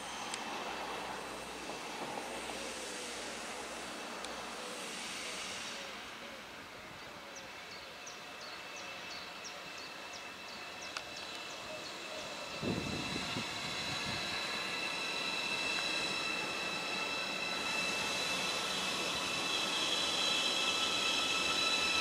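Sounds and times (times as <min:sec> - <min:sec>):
high train whine: 0:00.0 - 0:22.0
train rumble and hiss: 0:00.0 - 0:22.0.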